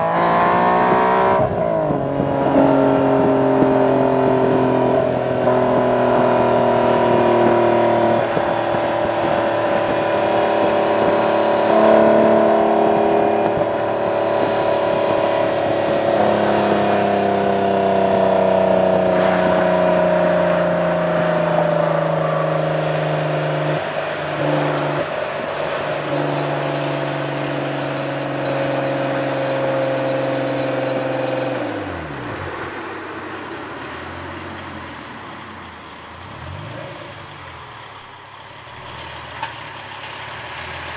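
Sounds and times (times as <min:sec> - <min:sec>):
car exhaust at cruise: 0:00.0 - 0:35.5.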